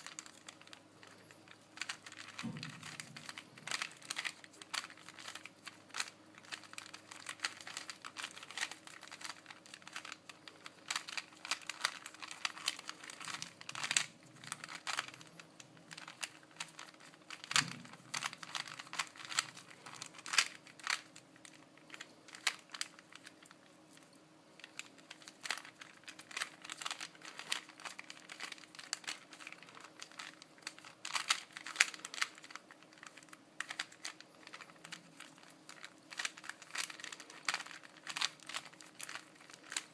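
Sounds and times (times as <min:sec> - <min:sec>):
puzzle cube plastic layers clicking: 0:00.0 - 0:39.9.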